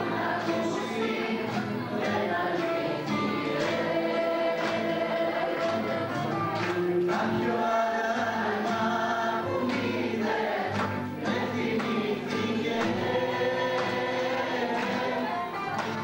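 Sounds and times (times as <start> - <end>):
bowl-backed lute: 0.0 - 16.0
people singing: 0.0 - 16.0.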